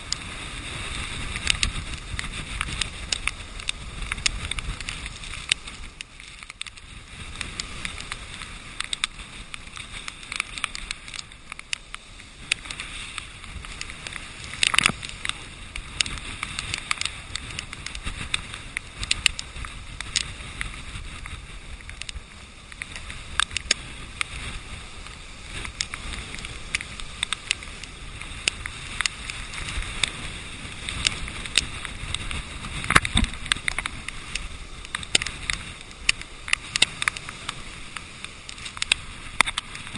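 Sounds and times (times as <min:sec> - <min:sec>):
surf and wind rushing: 0:00.0 - 0:39.9
wave crashing on seawall: 0:00.0 - 0:39.9.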